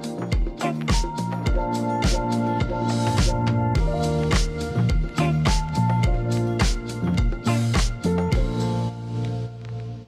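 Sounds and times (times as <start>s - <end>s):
steady drum beat: 0.0s - 8.7s.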